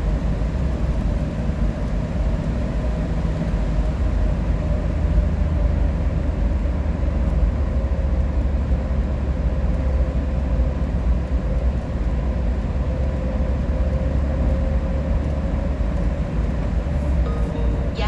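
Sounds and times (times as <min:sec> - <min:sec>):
vehicle cabin road rumble: 0:00.0 - 0:18.0.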